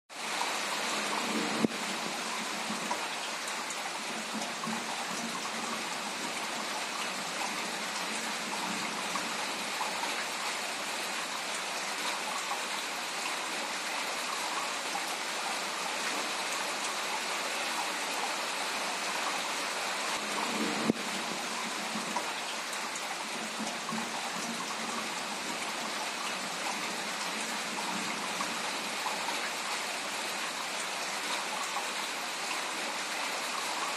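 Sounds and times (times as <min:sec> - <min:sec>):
steady rain in a garden: 0:00.1 - 0:33.9.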